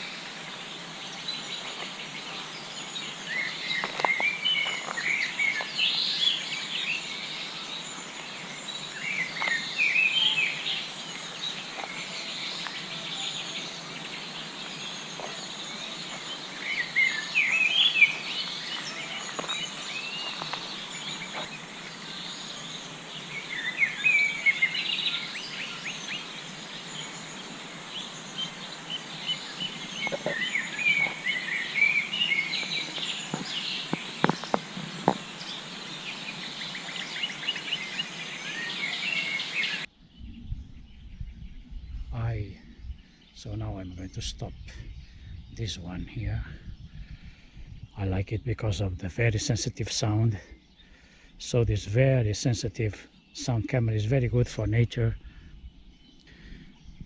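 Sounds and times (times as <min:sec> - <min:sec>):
songbirds chirping: 0:00.0 - 0:57.0
steady background hiss: 0:00.0 - 0:57.0.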